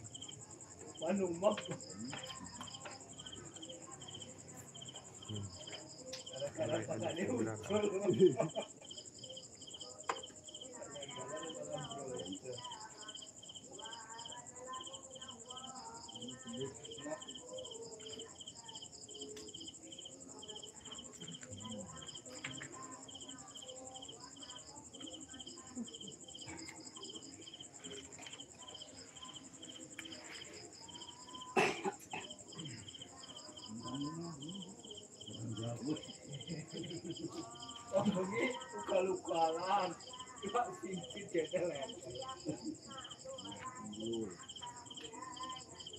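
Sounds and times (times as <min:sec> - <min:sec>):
faint distant voices murmuring: 0:00.0 - 0:45.9
insects pulsing chirp: 0:00.0 - 0:45.9
insects trilling: 0:00.0 - 0:45.9.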